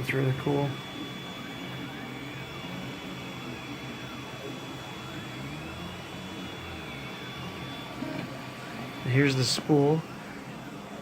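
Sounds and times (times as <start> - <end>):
steady hum: 0.0 - 11.0
stepper motors whining: 0.3 - 11.0.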